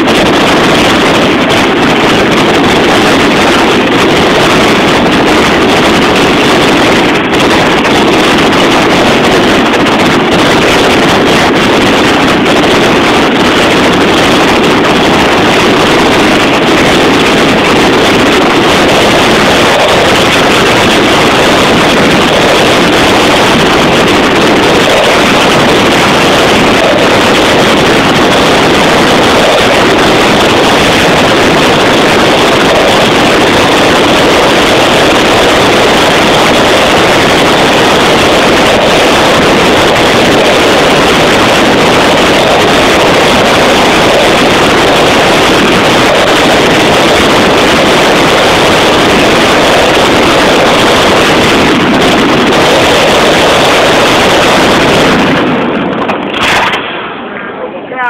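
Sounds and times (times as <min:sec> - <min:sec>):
fireworks barrage: 0:00.0 - 0:58.0.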